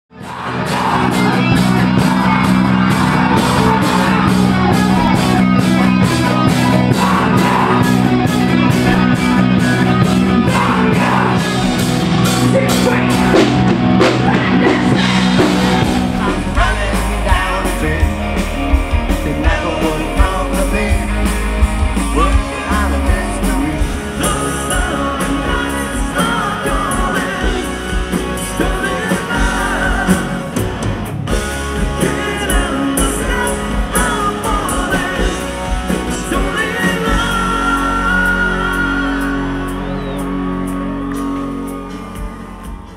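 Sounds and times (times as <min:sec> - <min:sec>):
rock music with singer: 0:00.1 - 0:42.9.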